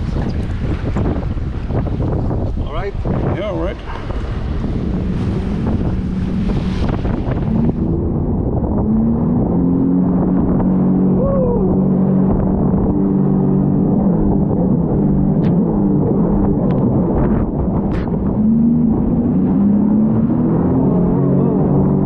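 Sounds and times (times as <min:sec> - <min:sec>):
jet ski engine running: 0:00.0 - 0:22.0
wind noise on microphone: 0:00.0 - 0:22.0.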